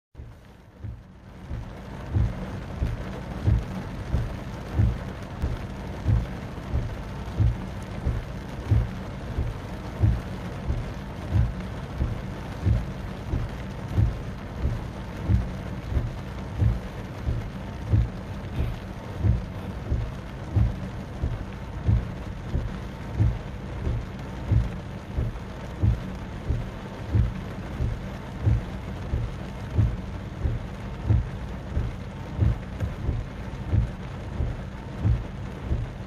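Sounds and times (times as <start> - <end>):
hard rain on a car roof: 0.2 - 36.0
windscreen wipers thumping: 0.2 - 36.0.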